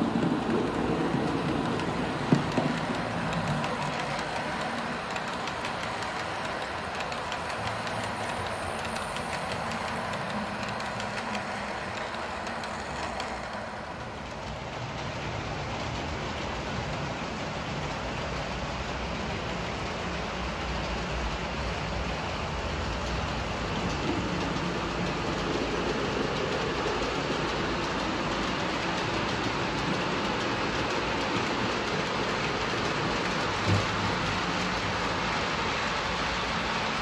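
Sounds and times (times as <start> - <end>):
model train wheels and motors hissing: 0.0 - 37.0
wheels clicking over rails: 0.0 - 37.0.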